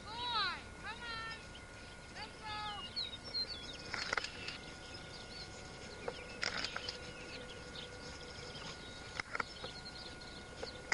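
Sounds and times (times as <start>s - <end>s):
small birds chirping: 0.1s - 10.9s.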